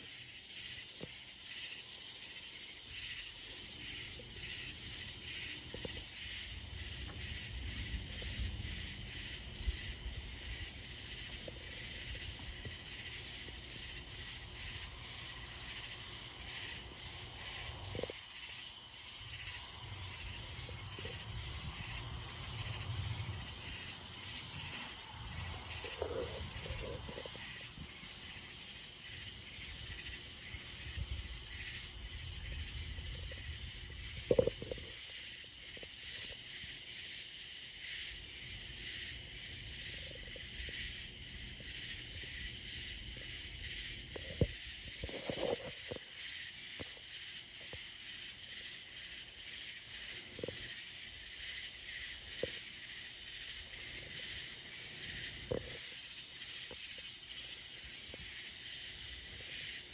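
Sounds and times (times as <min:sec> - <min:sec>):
insects chirping: 0:00.0 - 0:59.9.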